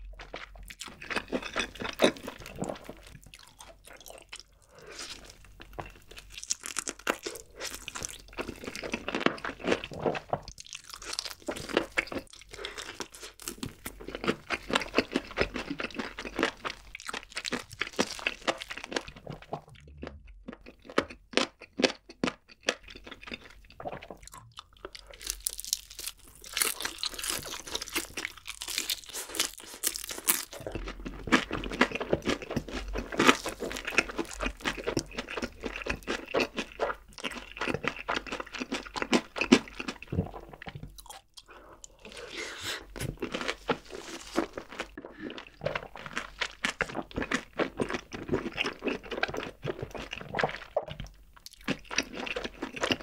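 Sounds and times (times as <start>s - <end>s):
crunching fried chicken: 0.0s - 53.0s.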